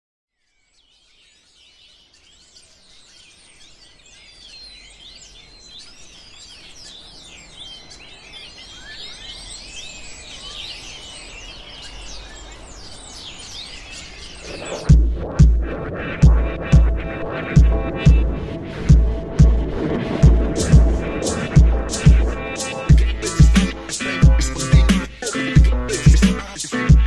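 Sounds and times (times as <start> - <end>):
birds chirping and calling: 0.5 - 27.0.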